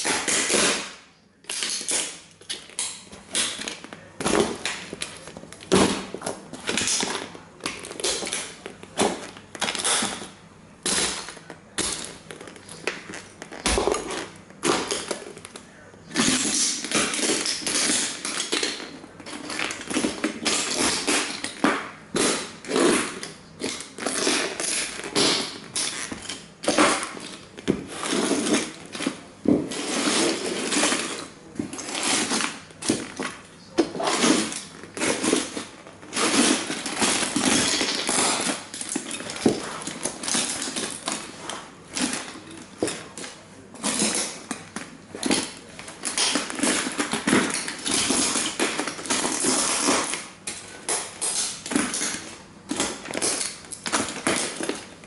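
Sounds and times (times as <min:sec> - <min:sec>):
boots crunching broken plastic: 0:00.0 - 0:55.0.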